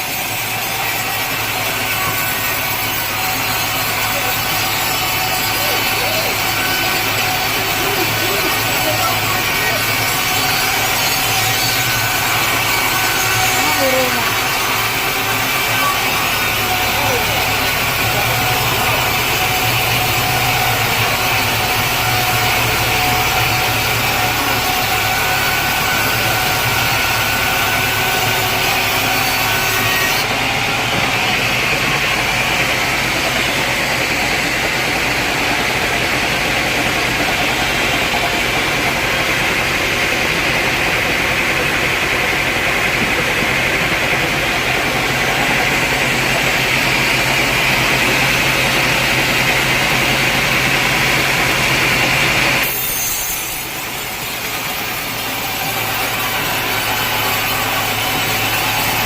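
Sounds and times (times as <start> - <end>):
saw rasping through log: 0.0 - 59.0
sawmill machine hum: 0.0 - 59.0.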